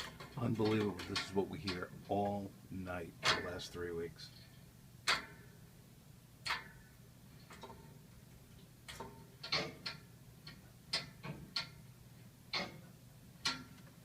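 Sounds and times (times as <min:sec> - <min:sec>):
radiator pipes ticking and knocking: 0:00.0 - 0:14.0.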